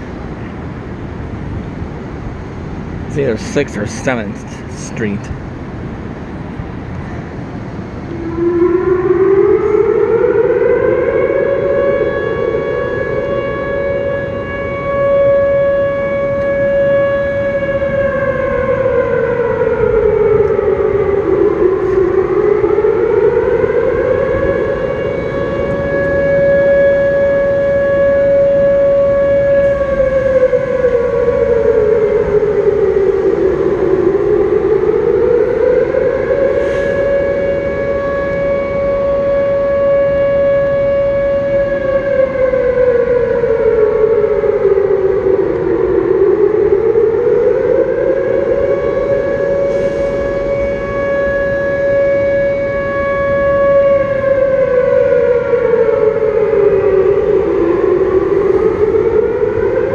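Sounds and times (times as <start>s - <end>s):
warning siren wailing: 0.0s - 6.8s, 7.4s - 59.9s.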